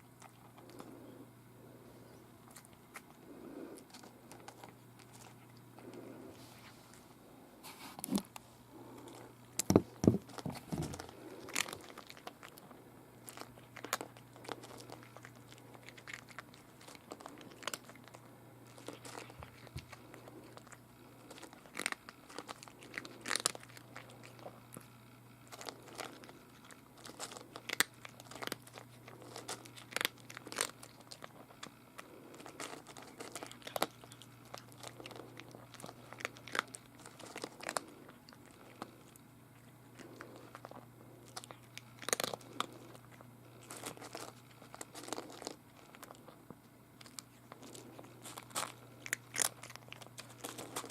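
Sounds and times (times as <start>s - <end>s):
cat crunching dry food: 0.0s - 7.4s, 8.0s - 50.9s.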